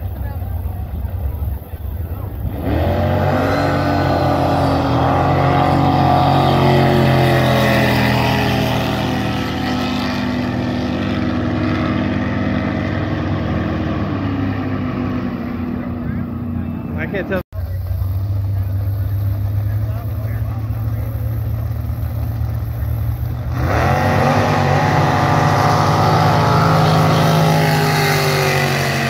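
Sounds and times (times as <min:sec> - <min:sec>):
jet boat engine running hard: 0:00.0 - 0:16.9, 0:17.6 - 0:29.0.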